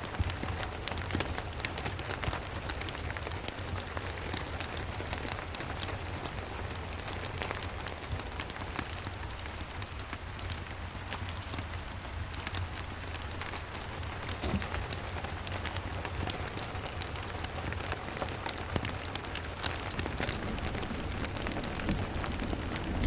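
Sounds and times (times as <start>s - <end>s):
rain falling: 0.0s - 23.0s
wood fire crackling: 0.0s - 23.0s.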